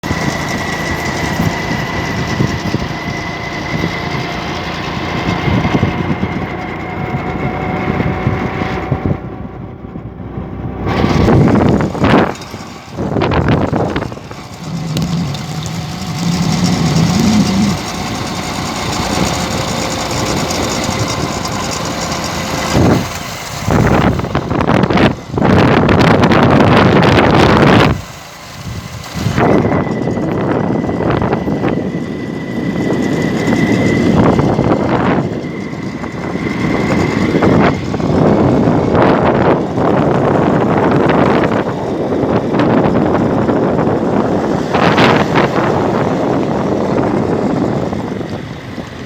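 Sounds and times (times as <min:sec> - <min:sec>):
motorcycle engine running: 0:00.0 - 0:49.0
road and wind rush: 0:00.0 - 0:49.0.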